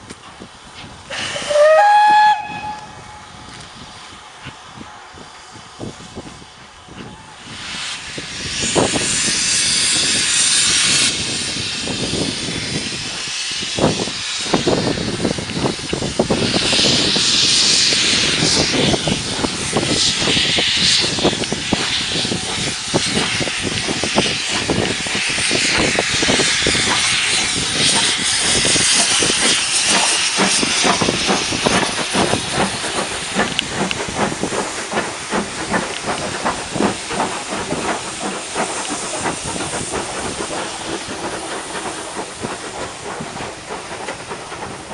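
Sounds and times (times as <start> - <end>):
steam locomotive exhaust beats: 0.0 - 44.9
steam hiss from cylinder drain cocks: 7.5 - 44.9.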